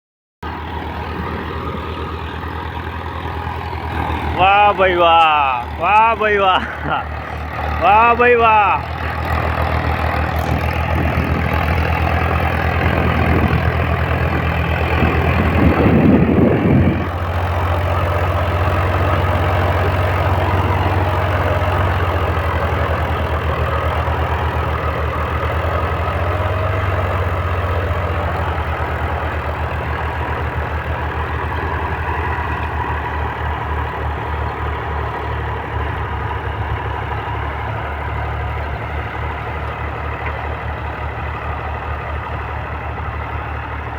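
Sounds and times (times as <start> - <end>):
diesel engine idling: 0.4 - 43.9.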